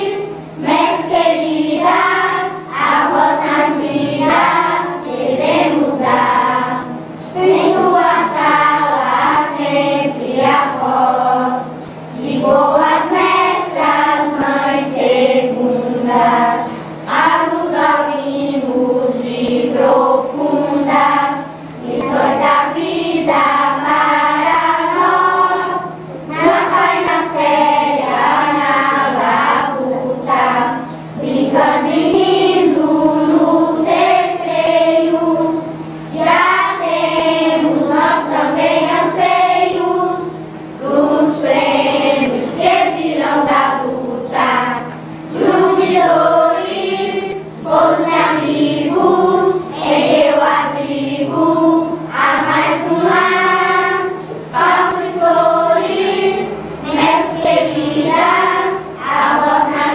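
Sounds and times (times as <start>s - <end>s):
choir singing: 0.0s - 59.9s
steady low hum: 0.0s - 59.9s.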